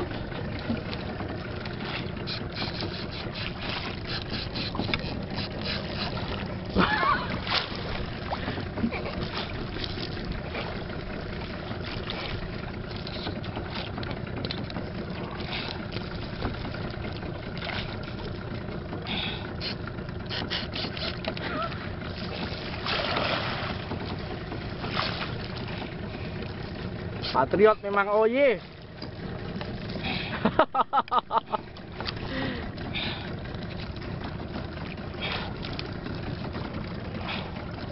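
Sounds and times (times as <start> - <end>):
wind and water rushing: 0.0 - 37.9.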